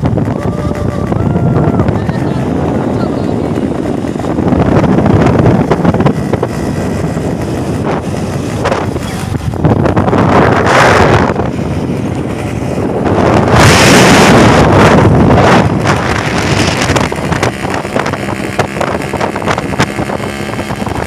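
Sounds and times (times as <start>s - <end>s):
scooter engines running: 0.0s - 21.0s
wind buffeting microphone: 0.0s - 21.0s.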